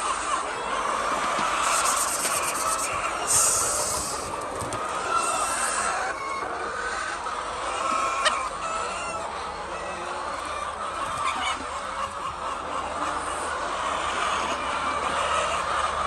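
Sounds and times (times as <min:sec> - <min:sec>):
hens clucking: 0:00.0 - 0:16.0
steady background noise: 0:00.0 - 0:16.0.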